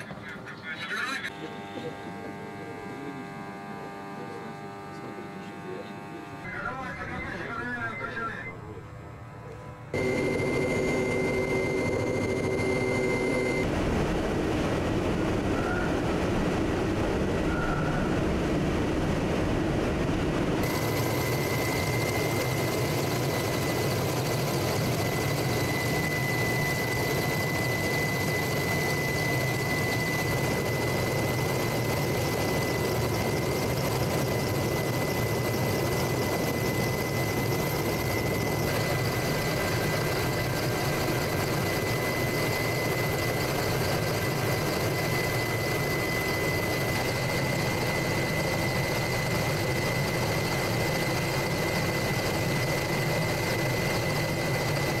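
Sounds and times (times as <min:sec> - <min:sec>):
helicopter engine and rotor drone: 0:00.0 - 0:03.2, 0:03.9 - 0:55.0
constant high whine: 0:00.0 - 0:55.0.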